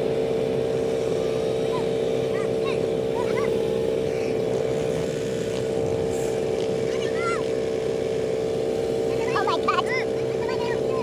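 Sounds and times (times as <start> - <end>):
quad bike engines running: 0.0 - 11.0
voices calling: 0.8 - 11.0.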